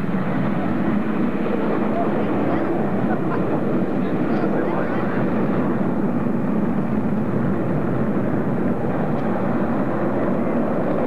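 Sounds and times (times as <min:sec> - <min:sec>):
steady jet engine noise: 0:00.0 - 0:11.0.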